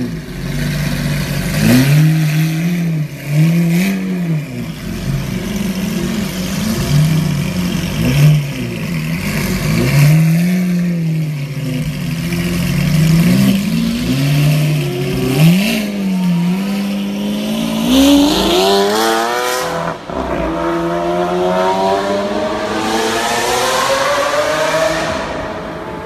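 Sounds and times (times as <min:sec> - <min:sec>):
sports car engine accelerating: 0:00.0 - 0:26.0.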